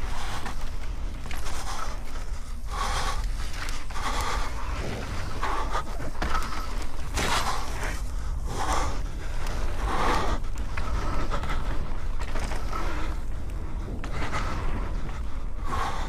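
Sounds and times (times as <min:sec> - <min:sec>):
bike rattling: 0:00.0 - 0:16.0
bike tyres rolling on dirt: 0:00.0 - 0:16.0
steady low rumble: 0:00.0 - 0:16.0.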